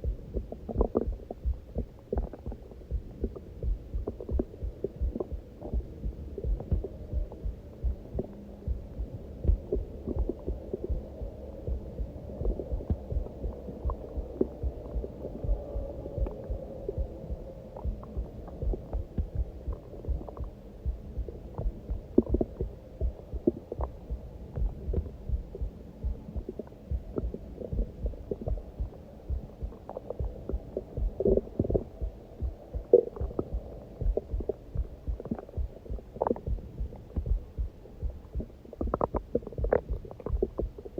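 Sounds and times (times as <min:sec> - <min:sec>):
heartbeat: 0:00.0 - 0:40.9
stomach growling: 0:00.0 - 0:40.9.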